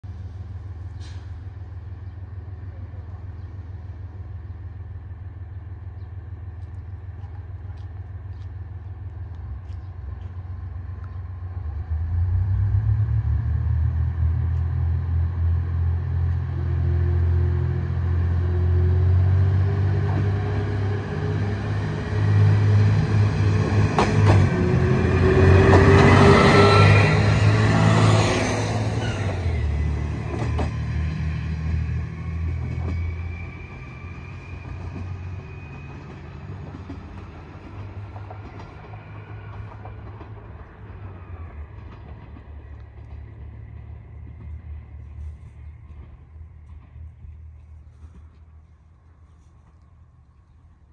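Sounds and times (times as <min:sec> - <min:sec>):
diesel railcar engine humming: 0:00.0 - 0:50.9
train rising whine: 0:08.2 - 0:49.5.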